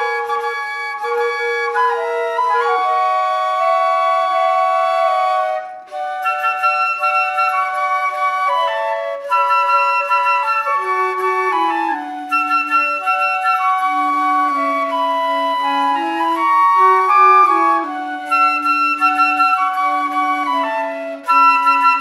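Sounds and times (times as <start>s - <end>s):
flute trio playing slow melody: 0.0s - 22.0s.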